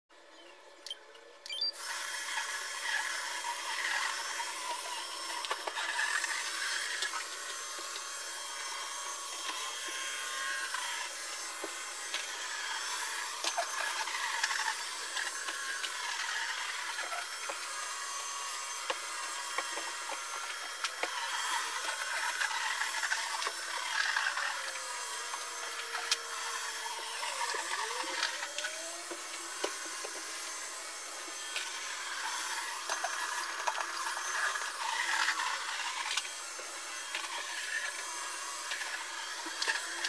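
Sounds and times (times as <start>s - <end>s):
robot vacuum whirring: 1.5s - 40.0s.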